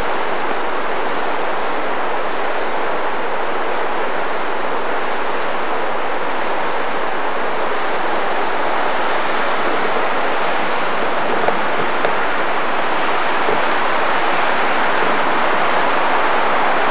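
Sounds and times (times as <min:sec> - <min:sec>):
river rapids rushing over rocks: 0:00.0 - 0:16.9.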